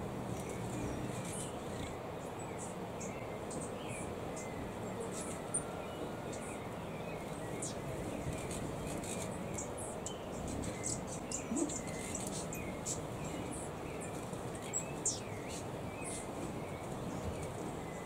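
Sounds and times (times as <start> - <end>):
steady background hiss: 0.0 - 18.0
small birds chirping: 0.3 - 18.0.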